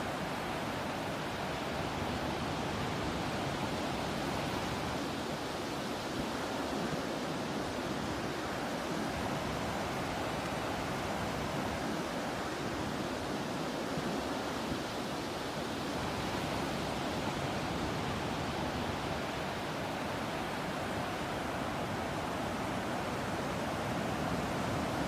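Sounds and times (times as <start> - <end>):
ocean surf: 0.0 - 25.0.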